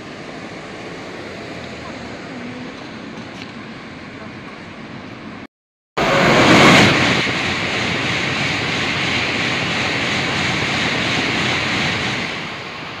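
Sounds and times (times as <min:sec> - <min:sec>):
bullet train rushing past: 0:00.0 - 0:13.0.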